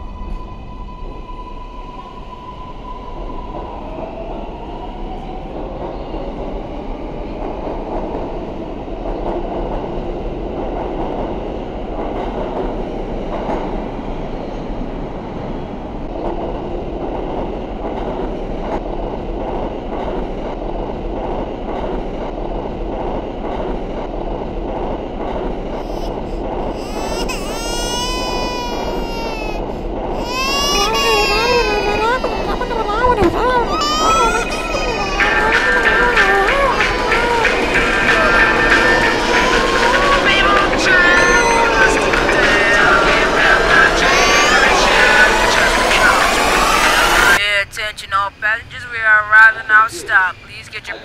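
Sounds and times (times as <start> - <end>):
train whine: 0.0 - 47.4
subway train rumble: 0.0 - 51.0.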